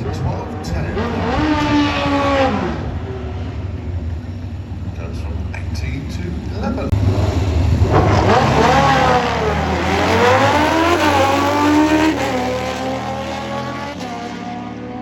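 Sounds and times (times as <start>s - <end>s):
motorcycle accelerating hard: 0.0s - 4.1s, 6.6s - 15.0s.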